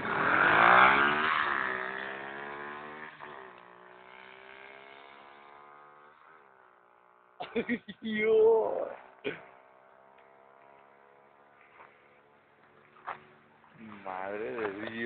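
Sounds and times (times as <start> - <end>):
pit bike engine revving: 0.0 - 7.7, 8.7 - 15.0.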